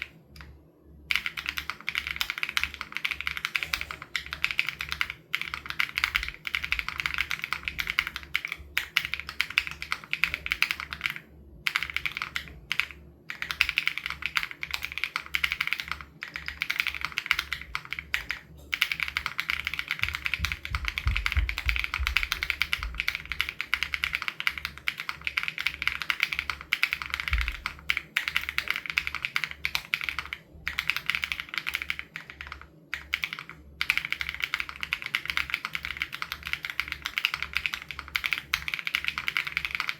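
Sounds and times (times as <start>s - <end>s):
fast mechanical keyboard typing: 1.1s - 39.9s.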